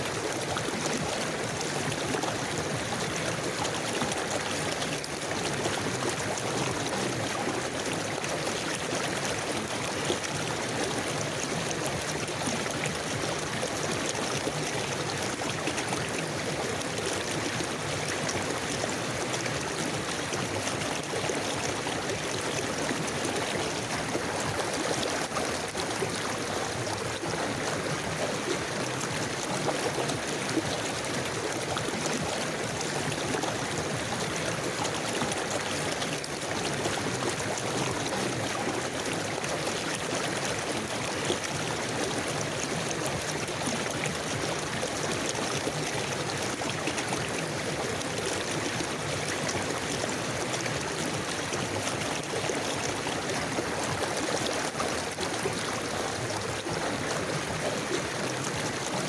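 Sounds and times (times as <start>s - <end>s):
river flowing over rocks: 0.0s - 59.0s
water trickling and gurgling: 0.0s - 59.0s.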